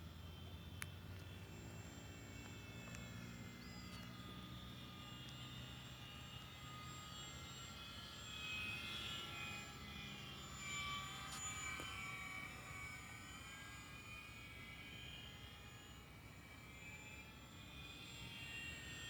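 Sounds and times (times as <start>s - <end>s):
model airplane motor whining: 0.0s - 19.0s.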